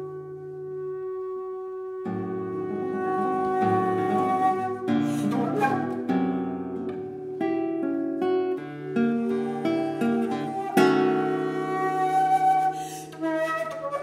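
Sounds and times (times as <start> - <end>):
alto flute long notes: 0.0 - 7.4, 8.8 - 14.0
classical guitar plucking chords: 0.0 - 14.0.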